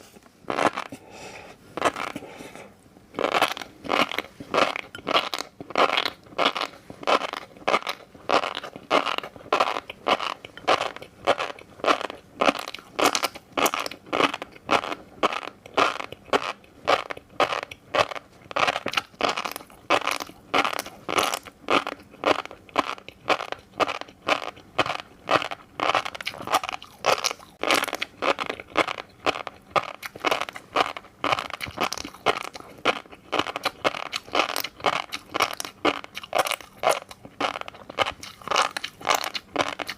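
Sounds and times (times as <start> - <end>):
fish roe being chewed: 0.0 - 39.9.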